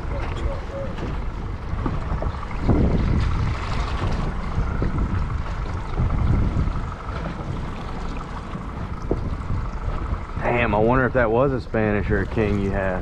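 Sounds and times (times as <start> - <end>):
water lapping against boat hull: 0.0 - 13.0
wind buffeting microphone: 0.0 - 13.0.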